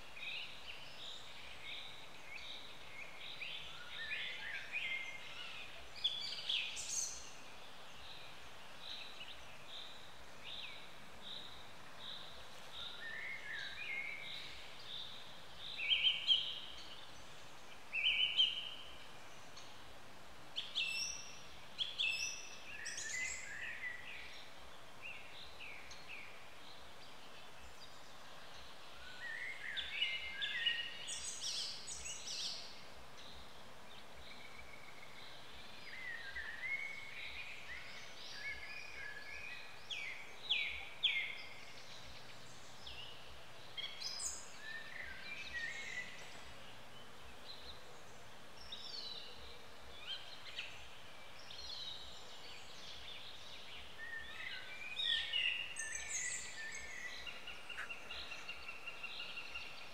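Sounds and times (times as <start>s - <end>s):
faint background hiss: 0.0s - 59.9s
songbirds chirping and twittering: 0.0s - 59.9s.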